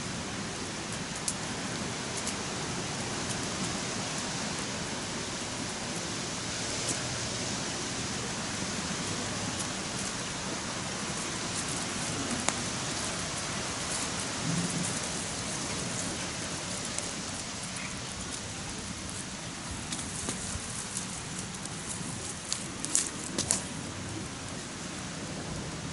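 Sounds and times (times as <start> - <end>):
campfire crackling and hissing: 0.0 - 25.9.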